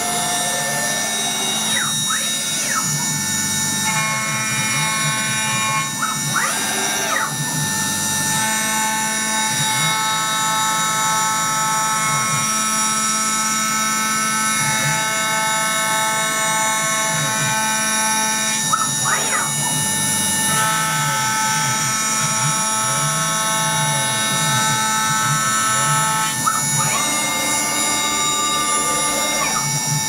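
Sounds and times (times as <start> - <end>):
power tool whining: 0.0 - 30.0.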